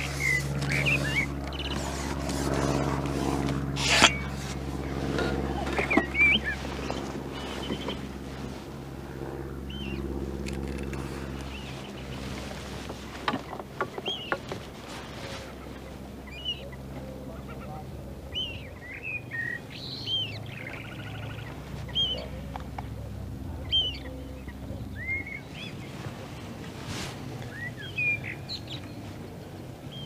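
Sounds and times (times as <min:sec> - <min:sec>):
birds chirping: 0:00.0 - 0:26.1, 0:27.4 - 0:30.0
low mechanical hum: 0:00.0 - 0:30.0.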